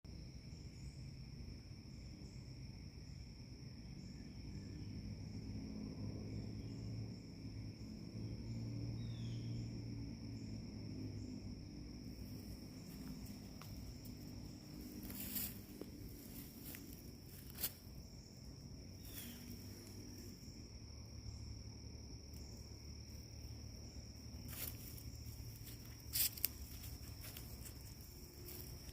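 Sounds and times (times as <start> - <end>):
insects trilling: 0.1 - 28.9.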